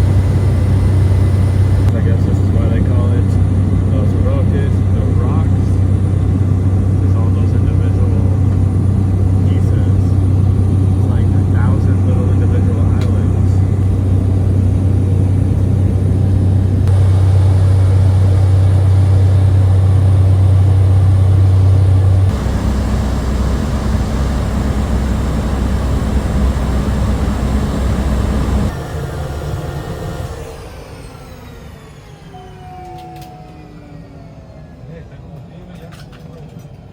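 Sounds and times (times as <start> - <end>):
light aircraft engine drone: 0.0 - 36.9.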